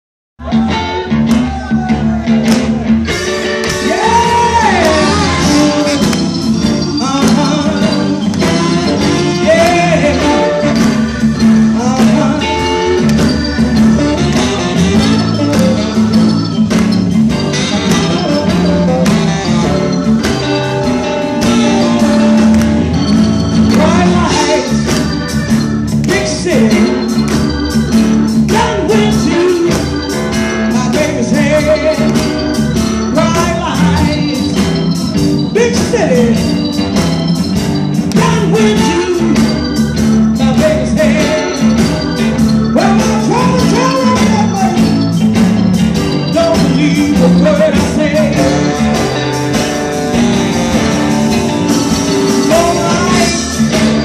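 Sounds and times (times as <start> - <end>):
drums: 0.4 - 54.0
electric guitar: 0.4 - 54.0.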